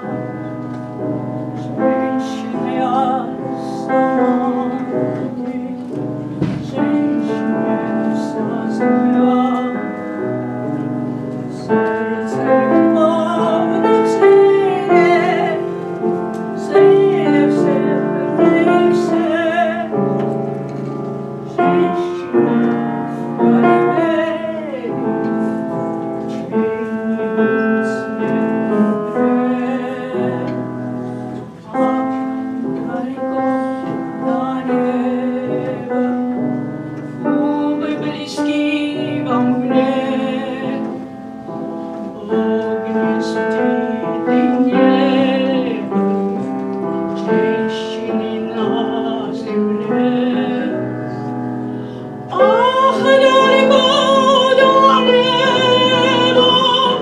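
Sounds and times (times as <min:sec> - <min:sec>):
piano accompaniment: 0:00.0 - 0:57.0
woman singing with vibrato: 0:01.2 - 0:20.5, 0:21.2 - 0:57.0.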